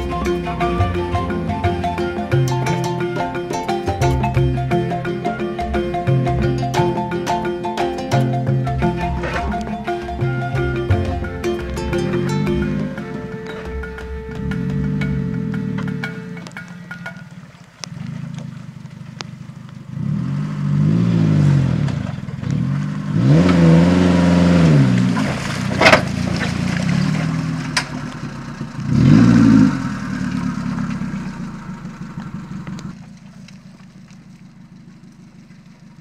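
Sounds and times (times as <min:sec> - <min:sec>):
truck engine revving: 0:00.0 - 0:35.1.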